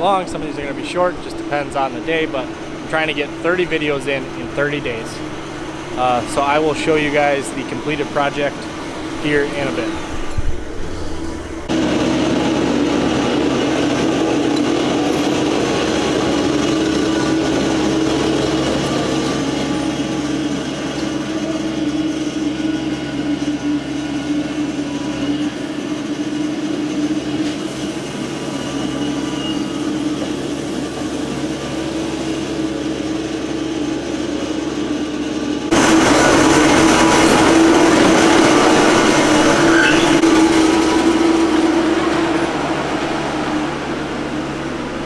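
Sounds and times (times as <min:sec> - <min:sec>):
skid steer engine droning: 0:00.0 - 0:45.0.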